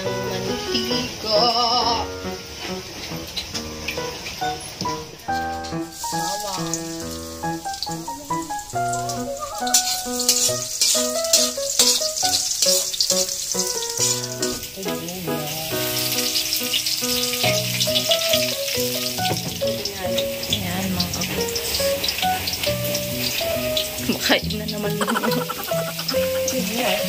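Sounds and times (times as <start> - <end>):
background music: 0.0 - 4.2, 4.9 - 27.0
oil sizzling in a pan: 0.0 - 27.0.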